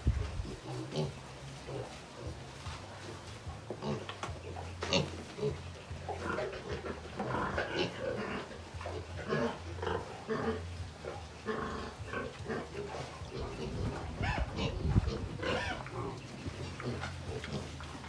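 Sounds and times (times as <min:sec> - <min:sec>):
piglets grunting: 0:00.2 - 0:02.4, 0:03.8 - 0:18.0.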